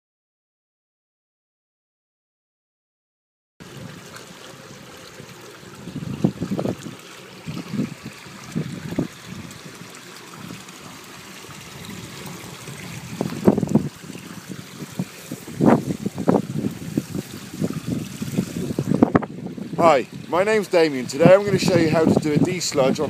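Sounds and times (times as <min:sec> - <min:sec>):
running water rushing: 0:03.6 - 0:23.0
wind buffeting microphone: 0:03.6 - 0:23.0.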